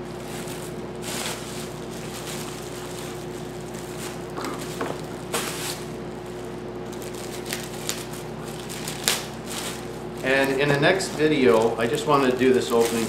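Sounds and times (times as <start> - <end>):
bubble wrap crinkling: 0.0 - 13.0
steady hum: 0.0 - 13.0.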